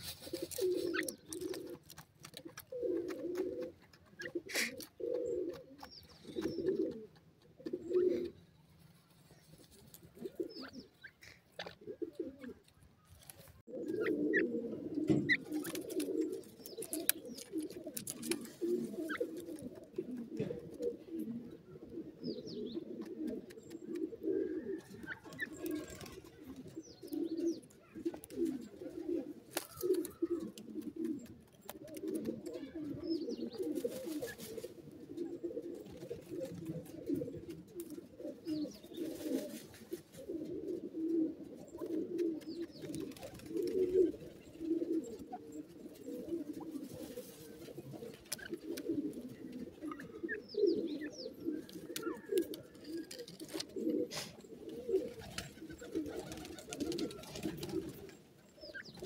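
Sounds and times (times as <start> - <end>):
pigeons cooing: 0.0 - 12.8, 13.5 - 59.0
small birds chirping: 0.0 - 59.0.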